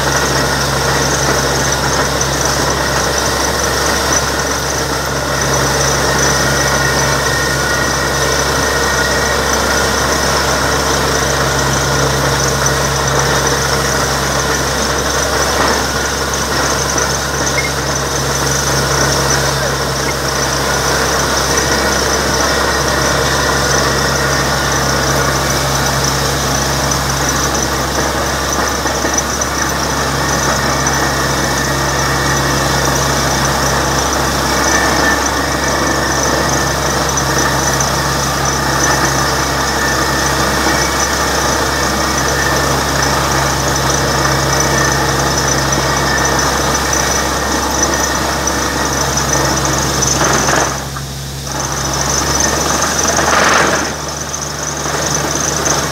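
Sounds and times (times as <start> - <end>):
drilling rig engine running: 0.0 - 55.9.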